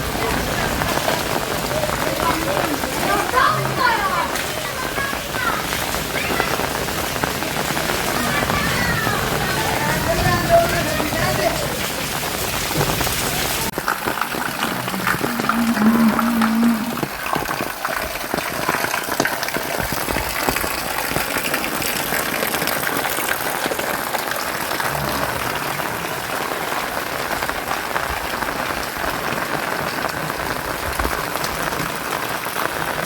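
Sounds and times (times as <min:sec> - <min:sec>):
heavy rain pattering: 0:00.0 - 0:33.0.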